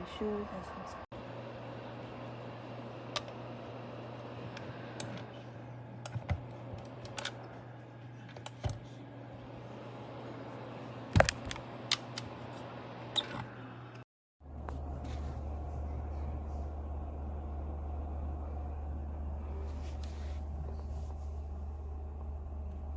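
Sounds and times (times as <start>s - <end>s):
heater fan humming: 0.0s - 22.9s.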